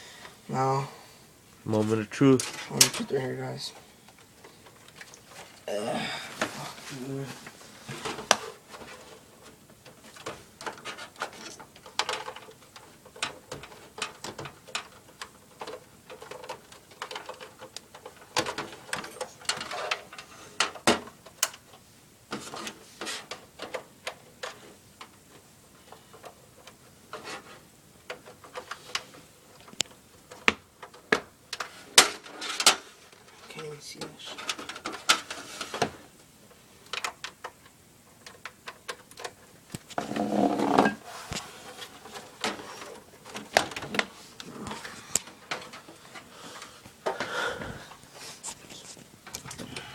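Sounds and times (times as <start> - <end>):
plastic parts clicking and knocking: 2.2 - 5.6, 7.4 - 48.1.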